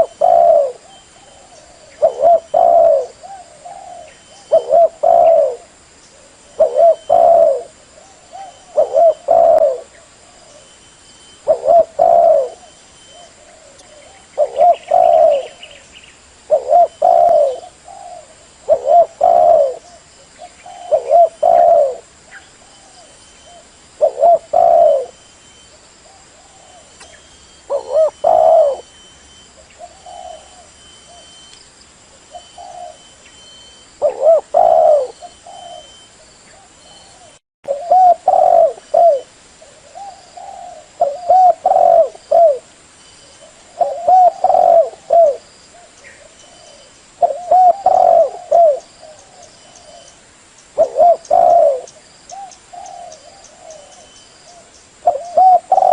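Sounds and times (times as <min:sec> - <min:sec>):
dove cooing: 0:00.0 - 0:15.8, 0:16.4 - 0:31.5, 0:32.3 - 0:50.2, 0:50.8 - 0:55.9.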